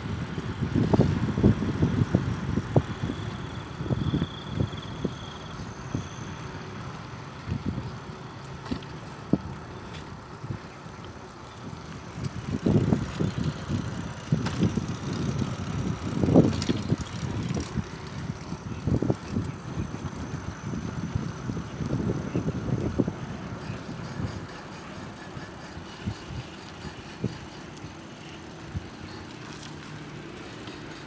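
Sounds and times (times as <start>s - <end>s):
road and wind rumble: 0.0s - 31.0s.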